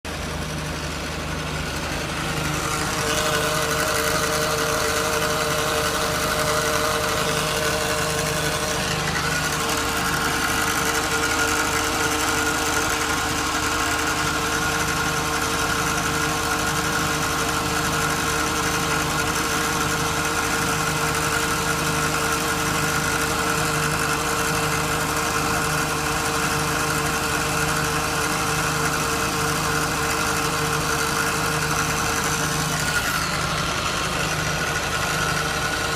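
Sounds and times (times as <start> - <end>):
engine hum: 0.0 - 35.9
hydraulic pump whine: 0.0 - 35.9.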